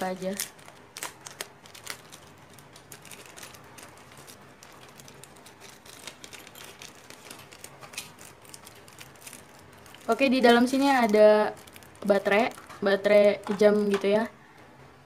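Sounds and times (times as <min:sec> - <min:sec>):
packaging clicking and rustling: 0:00.1 - 0:14.3.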